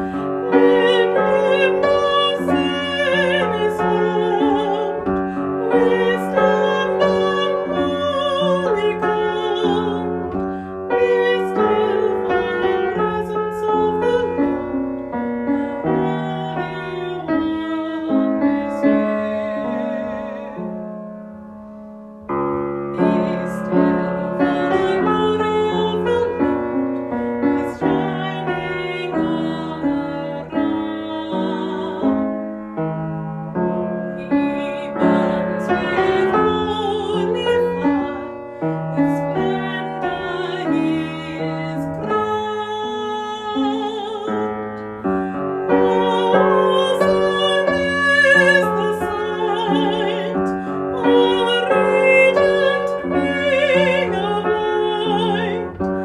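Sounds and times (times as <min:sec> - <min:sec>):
slow hymn with piano: 0:00.0 - 0:56.0.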